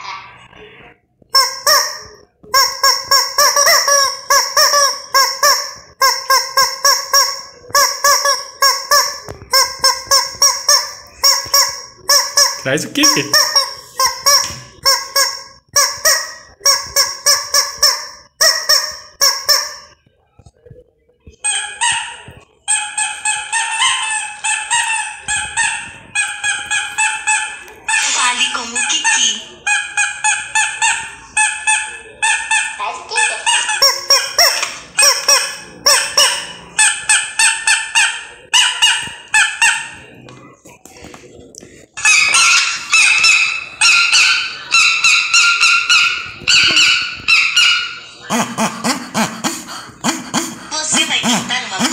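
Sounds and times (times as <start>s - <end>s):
rubber chicken toy squawking: 1.2s - 20.0s, 21.3s - 40.2s, 42.0s - 51.9s.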